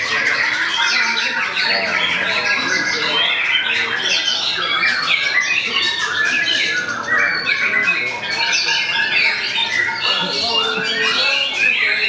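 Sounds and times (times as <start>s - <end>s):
bird singing rapid phrases: 0.0s - 12.0s.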